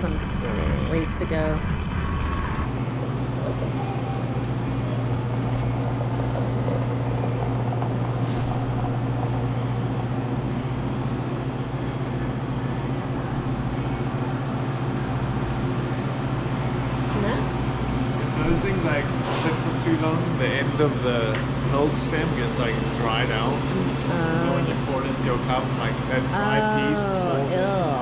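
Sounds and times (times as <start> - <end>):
vehicle engine drone: 0.0 - 27.1.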